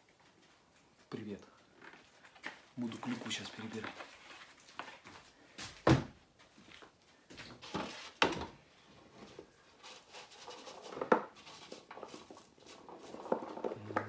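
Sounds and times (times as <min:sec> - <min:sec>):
soft rustling: 0:00.0 - 0:14.0.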